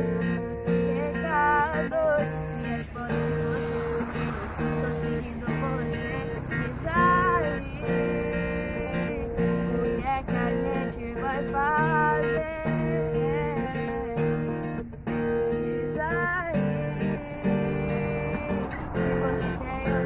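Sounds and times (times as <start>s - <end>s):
acoustic guitar strumming: 0.0s - 20.0s
girl singing: 0.4s - 14.7s, 15.8s - 20.0s.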